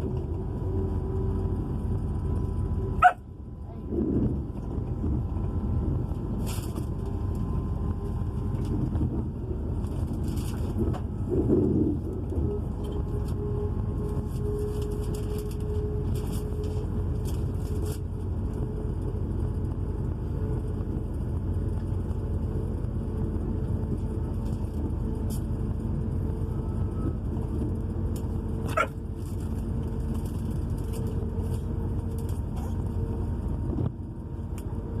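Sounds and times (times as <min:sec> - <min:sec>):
train engines and wheels rumbling: 0:00.0 - 0:35.0.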